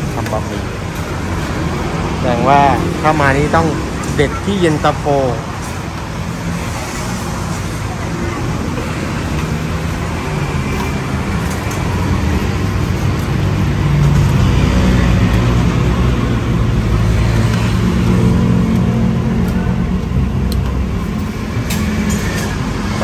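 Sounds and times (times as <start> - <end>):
road traffic rumble: 0.0 - 23.0
vehicle engine hum: 0.0 - 23.0.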